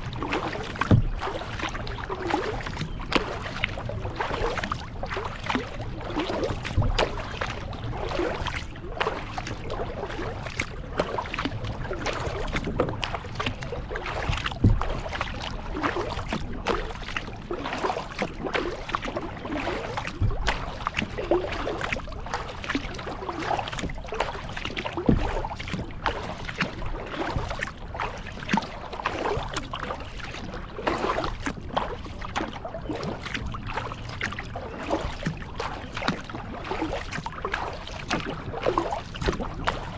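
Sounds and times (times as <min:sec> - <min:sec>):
paddle strokes in water: 0:00.0 - 0:39.9
water splashing and dripping: 0:00.0 - 0:39.9.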